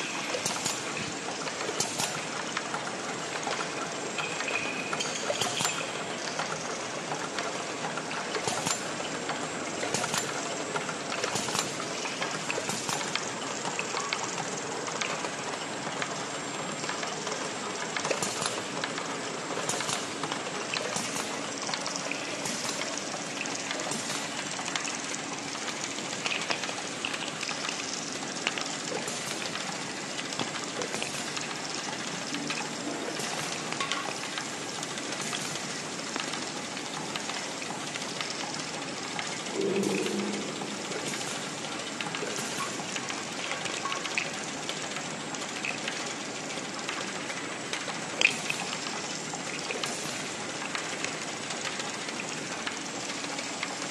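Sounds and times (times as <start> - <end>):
bottling machine clatter: 0.0 - 53.9.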